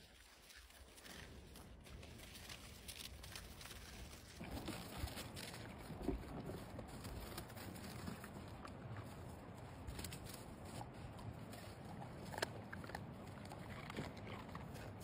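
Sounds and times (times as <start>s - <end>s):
dog paws pattering on snow: 0.0s - 12.5s.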